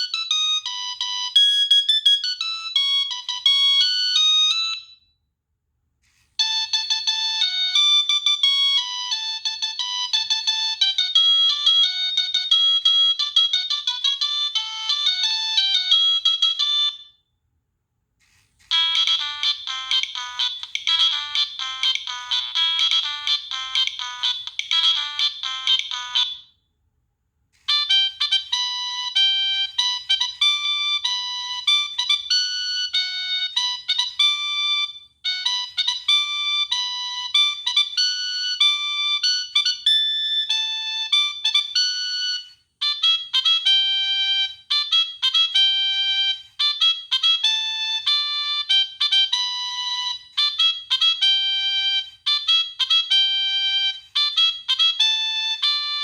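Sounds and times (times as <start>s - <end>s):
electronic ringtone melody: 0.0s - 5.0s, 6.4s - 17.1s, 18.7s - 26.5s, 27.7s - 56.0s.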